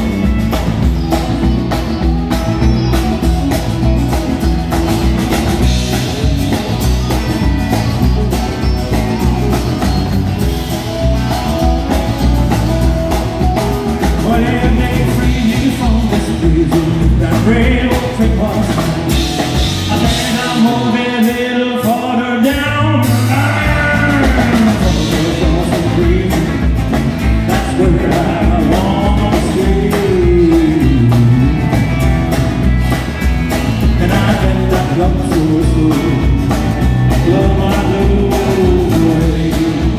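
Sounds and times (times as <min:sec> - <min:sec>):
live country band playing: 0:00.0 - 0:39.9
man singing: 0:05.0 - 0:32.1, 0:33.5 - 0:39.9.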